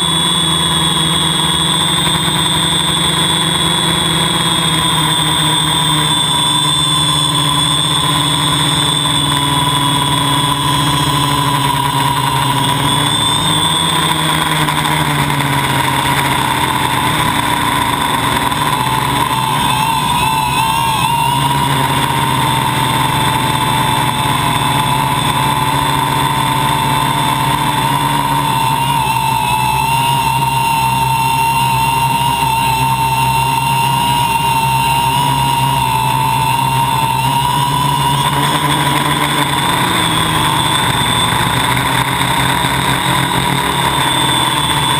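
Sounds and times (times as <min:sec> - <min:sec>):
drone propellers whining: 0:00.0 - 0:44.9.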